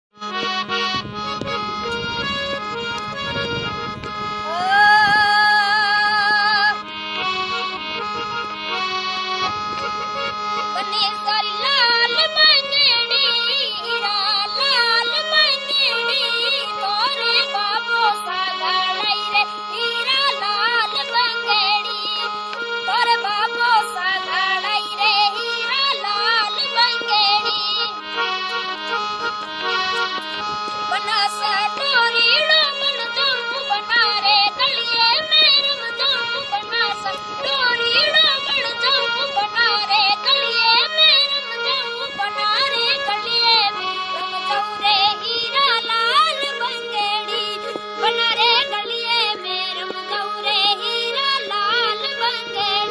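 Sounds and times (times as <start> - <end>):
high voice singing folk melody: 2.2 - 8.9, 10.6 - 52.9.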